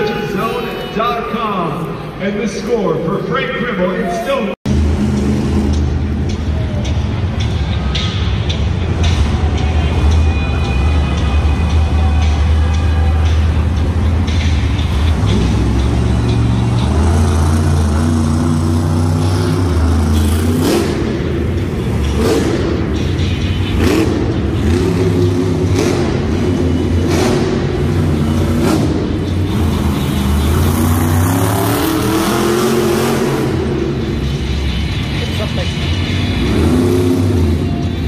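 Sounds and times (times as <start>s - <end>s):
truck engine revving: 4.6s - 38.0s.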